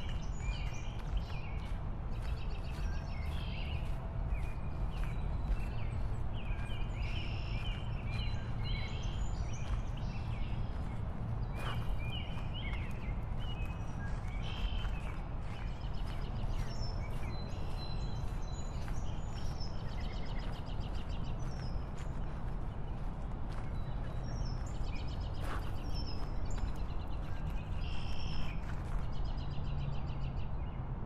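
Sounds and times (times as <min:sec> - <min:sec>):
birds chirping: 0:00.0 - 0:30.8.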